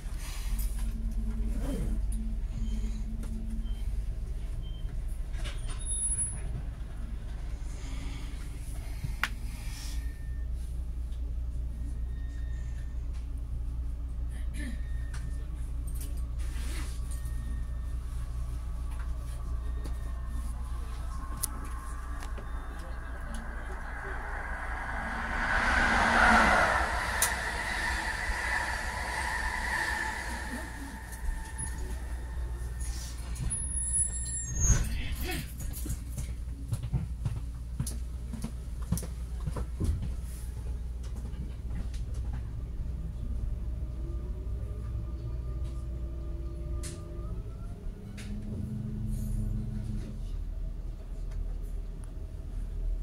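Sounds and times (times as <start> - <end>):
train onboard equipment humming: 0.0 - 53.0.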